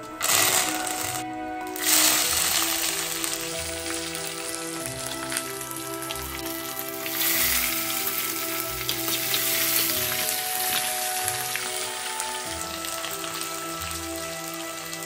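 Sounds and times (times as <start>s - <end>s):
shallots sizzling in oil: 0.0s - 15.0s
soft background music: 0.0s - 15.0s.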